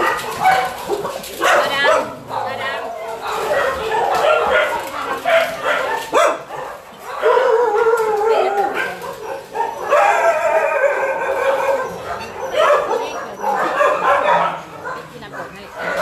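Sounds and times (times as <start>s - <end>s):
dogs howling and whining: 0.0s - 16.0s.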